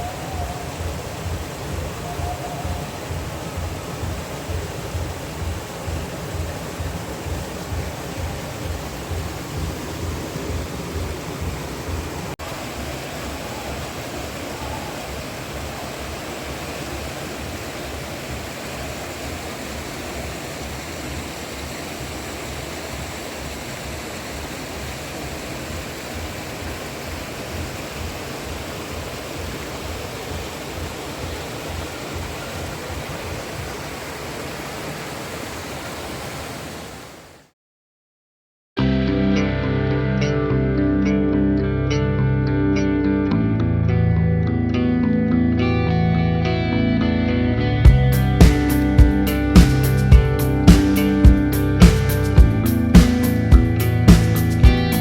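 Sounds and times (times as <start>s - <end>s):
flowing water rushing: 0.0s - 37.5s, 47.8s - 55.0s.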